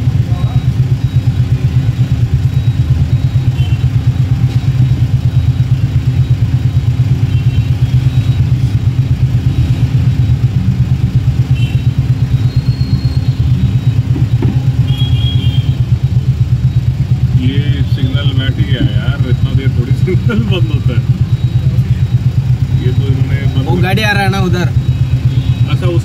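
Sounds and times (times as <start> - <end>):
faint high beeps: 0.0 - 26.0
motorbike engine idling: 0.0 - 26.0.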